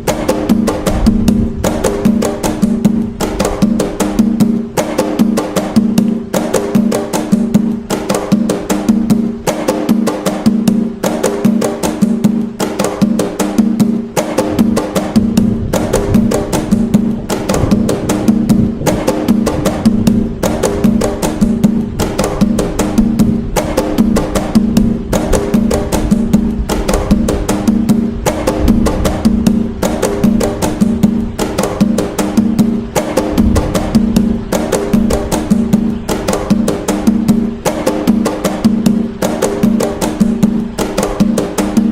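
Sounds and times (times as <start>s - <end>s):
hand drumming: 0.0s - 41.9s.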